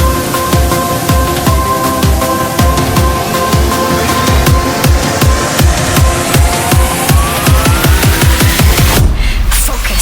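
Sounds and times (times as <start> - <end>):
thin rising synth tone: 0.0 - 9.0
pounding kick drum: 0.0 - 9.3
electronic dance music: 0.0 - 10.0.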